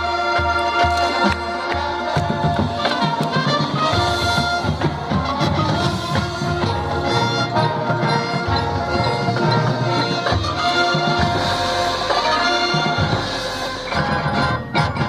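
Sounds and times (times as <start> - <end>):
brass holding chords: 0.0 - 15.0
marching drums: 0.0 - 15.0.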